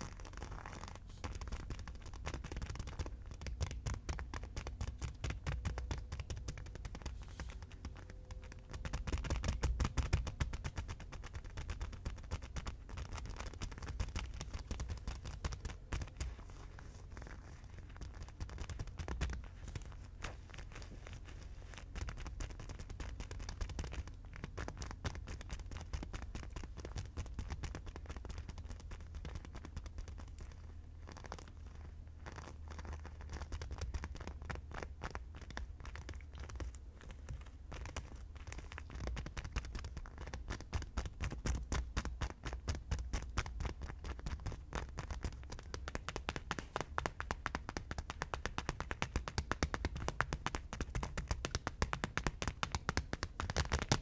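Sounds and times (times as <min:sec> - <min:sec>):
tapping and scratching on hard objects: 0:00.0 - 0:54.0.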